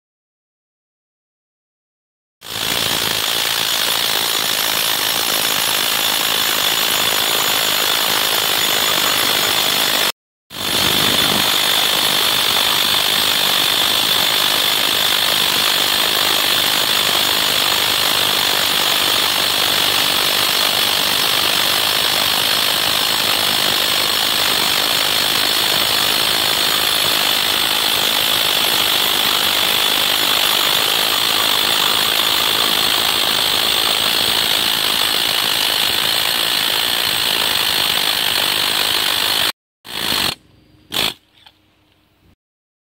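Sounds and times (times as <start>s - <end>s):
rotary hammer drilling into rock: 2.4s - 41.2s.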